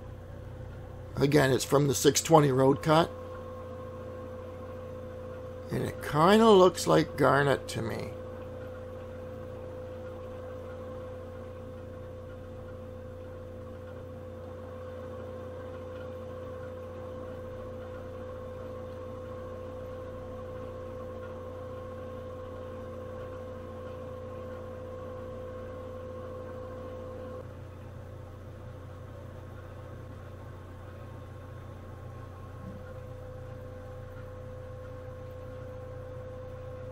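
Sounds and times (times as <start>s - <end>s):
machine hum: 0.0s - 36.9s.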